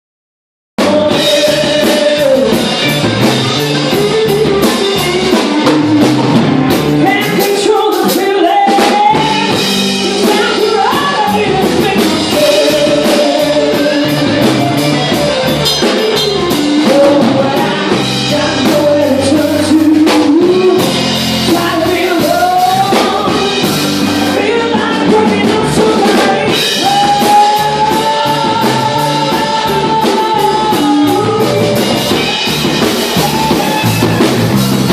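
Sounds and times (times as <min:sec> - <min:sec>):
drum kit: 0:00.8 - 0:34.9
guitar: 0:00.8 - 0:34.9
person singing: 0:00.8 - 0:34.9.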